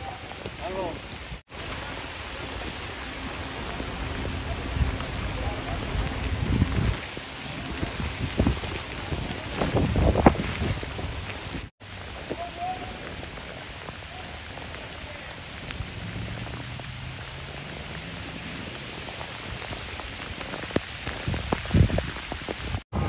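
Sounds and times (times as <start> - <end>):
heavy rain on water: 0.0 - 23.0.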